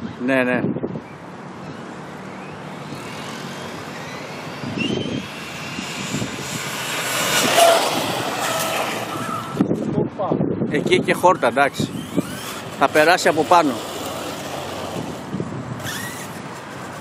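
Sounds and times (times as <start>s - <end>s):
tyre noise on asphalt: 1.3s - 10.0s, 10.9s - 17.0s
toy truck motor and gear whine: 1.6s - 9.7s, 11.0s - 17.0s.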